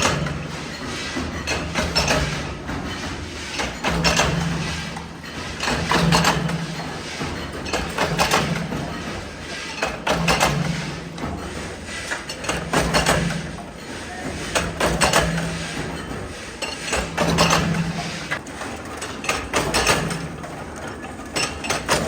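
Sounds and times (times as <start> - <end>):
factory machine hum: 0.0 - 22.0.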